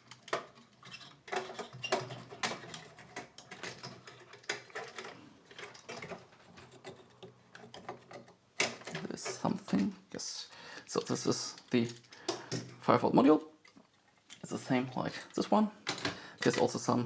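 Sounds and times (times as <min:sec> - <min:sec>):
metal parts and tools rattling: 0:00.0 - 0:10.0, 0:10.9 - 0:12.9, 0:13.6 - 0:17.0.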